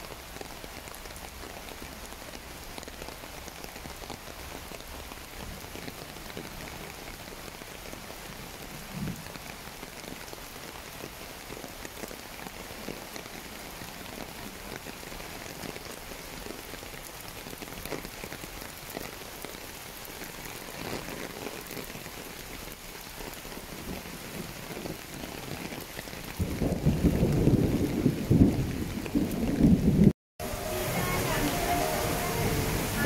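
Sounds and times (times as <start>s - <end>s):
rain on pavement and leaves: 0.0s - 33.0s.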